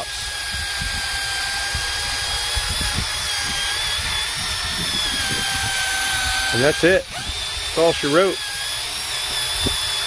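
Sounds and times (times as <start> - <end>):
rotary polisher motor whine: 0.0 - 10.0.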